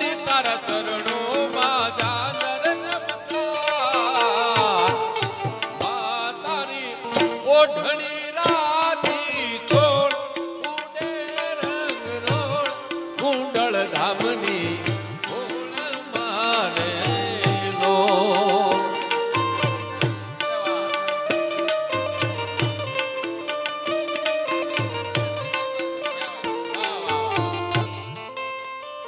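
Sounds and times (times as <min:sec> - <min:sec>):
tabla strokes: 0:00.0 - 0:28.7
ornamented lead melody: 0:00.0 - 0:29.0.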